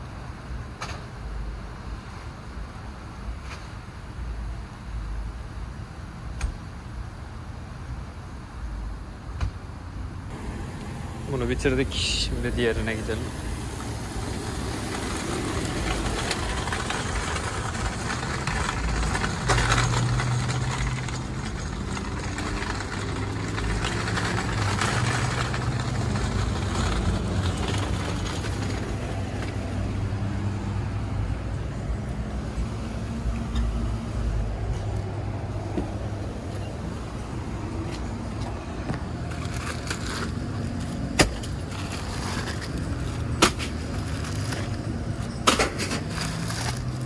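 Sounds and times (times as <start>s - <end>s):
engine humming steadily: 0.0s - 47.0s.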